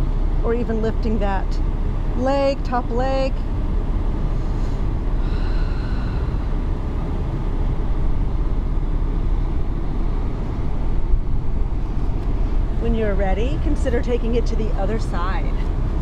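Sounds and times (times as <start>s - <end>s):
ship engine low rumble: 0.0s - 16.0s.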